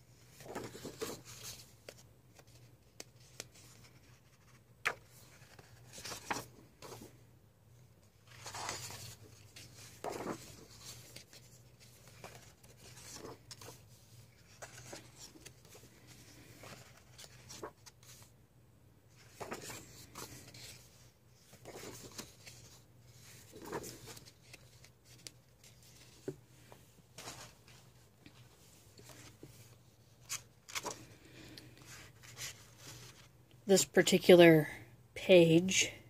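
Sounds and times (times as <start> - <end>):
paper pages turning: 0.2 - 7.1, 8.0 - 18.3, 19.1 - 26.4, 27.2 - 33.3.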